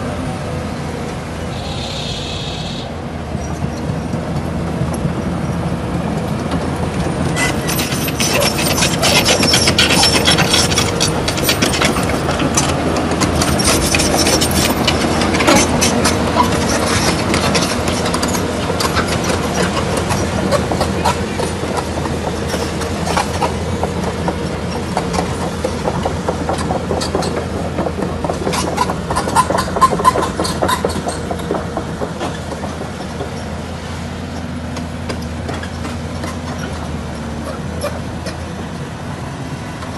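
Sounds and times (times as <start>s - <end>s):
excavator diesel engine droning: 0.0s - 39.9s
clanks and rattles: 3.4s - 38.9s.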